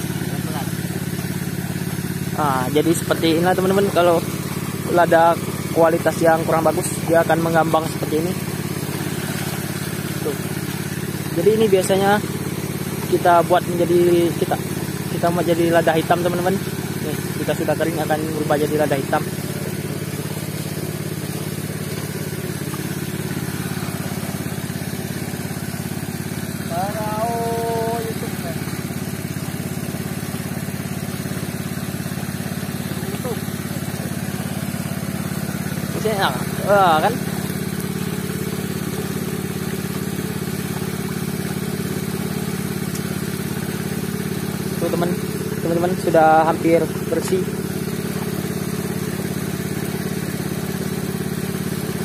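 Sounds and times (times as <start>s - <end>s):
small engine running steadily: 0.0s - 52.0s.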